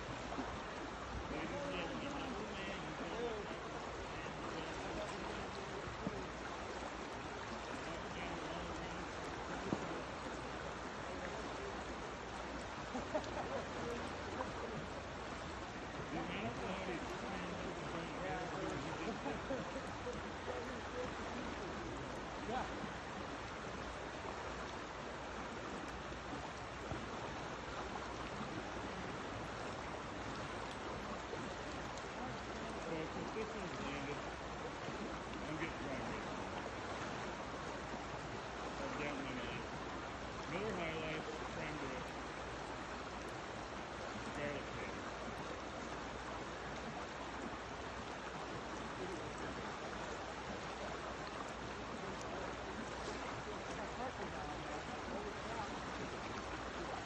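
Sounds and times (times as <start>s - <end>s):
river water rushing over riffle: 0.0s - 57.0s.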